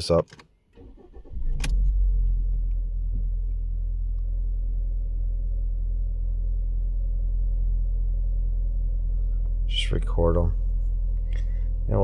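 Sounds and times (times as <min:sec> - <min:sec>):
car engine idling: 0:00.8 - 0:12.0.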